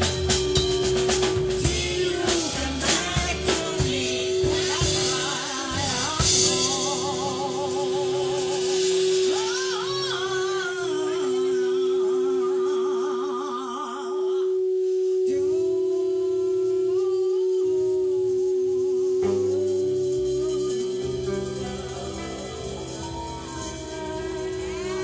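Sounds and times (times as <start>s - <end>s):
bass and drums: 0.0s - 11.8s, 15.2s - 25.0s
live soul band playing: 0.0s - 13.4s, 15.2s - 25.0s.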